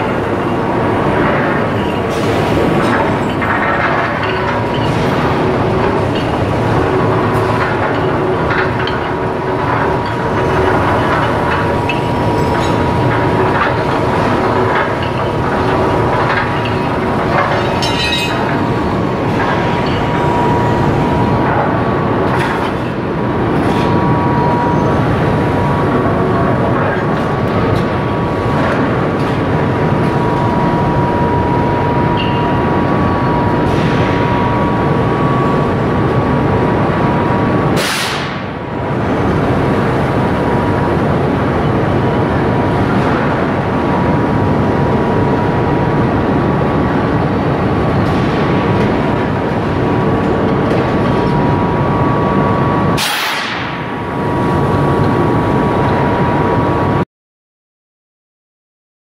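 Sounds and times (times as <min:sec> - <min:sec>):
high-pitched whine: 0:00.0 - 0:57.0
loud machinery noise: 0:00.0 - 0:57.0.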